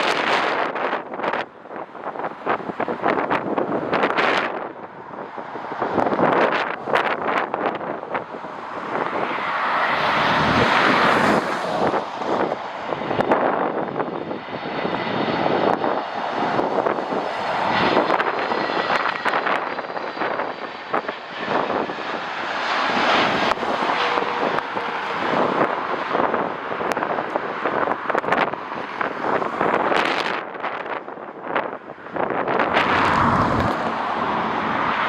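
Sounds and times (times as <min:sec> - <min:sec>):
jet engines passing: 0:00.0 - 0:35.0
wind buffeting microphone: 0:00.0 - 0:35.0.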